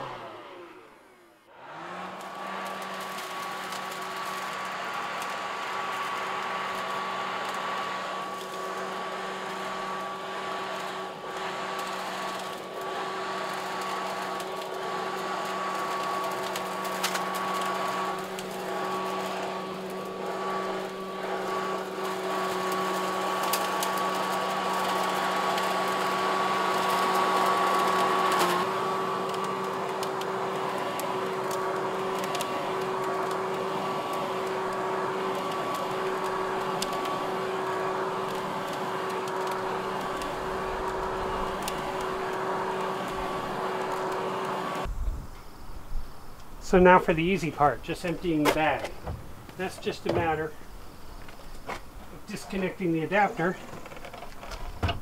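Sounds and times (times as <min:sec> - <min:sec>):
leaf vacuum running: 0:00.0 - 0:55.0.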